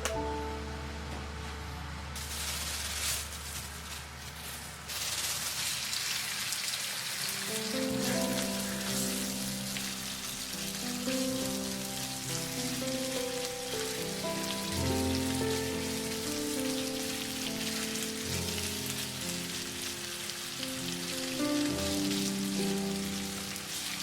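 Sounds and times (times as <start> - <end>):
slow background music: 0.0 - 3.6, 7.2 - 24.0
rain pattering: 2.2 - 24.0.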